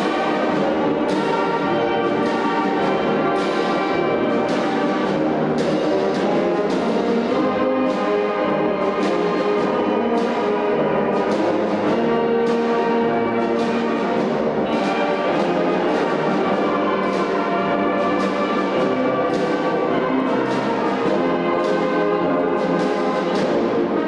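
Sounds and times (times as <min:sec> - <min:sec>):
brass march music: 0:00.0 - 0:24.0
steady drum beat: 0:00.0 - 0:24.0.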